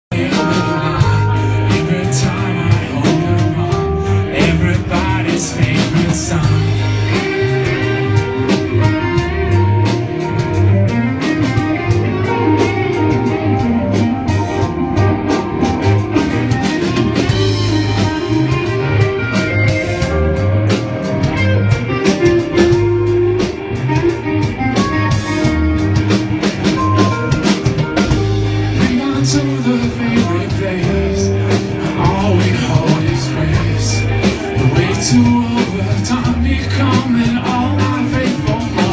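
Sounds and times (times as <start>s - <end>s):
live rock band playing: 0.1s - 38.9s.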